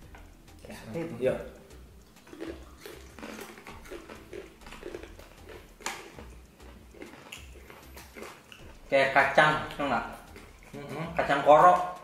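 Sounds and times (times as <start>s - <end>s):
people chewing crunchy snack: 2.0s - 12.0s.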